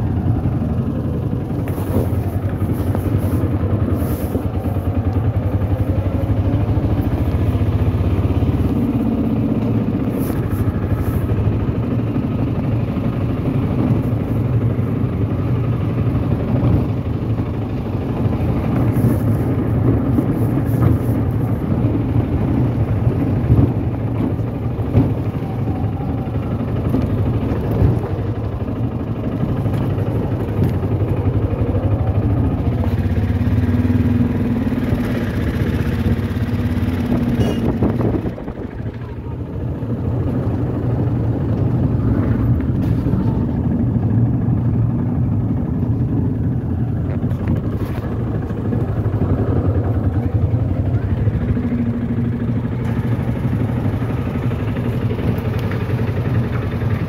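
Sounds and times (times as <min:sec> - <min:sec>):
road noise: 0:00.0 - 0:57.0
vehicle engine running: 0:00.0 - 0:57.0.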